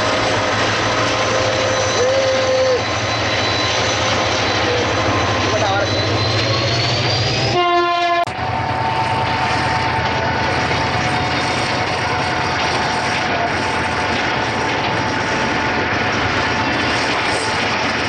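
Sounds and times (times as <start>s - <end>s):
steady whine: 0.0s - 18.0s
train rumbling past: 0.0s - 18.0s.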